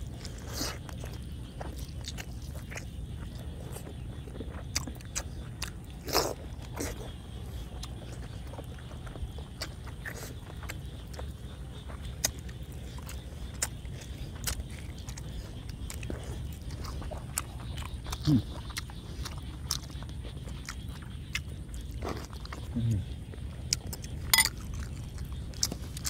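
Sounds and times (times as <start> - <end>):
people chewing and smacking: 0.0 - 26.0.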